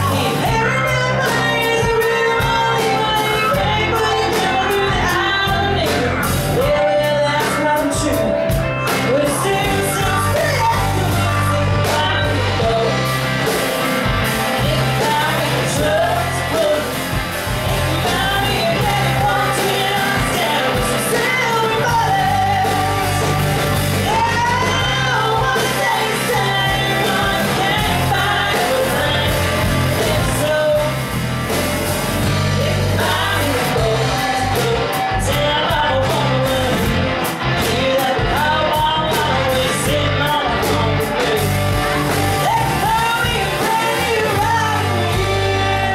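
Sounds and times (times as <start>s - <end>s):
woman singing: 0.0s - 13.5s, 14.4s - 31.2s, 32.2s - 45.9s
live country band playing: 0.0s - 45.9s.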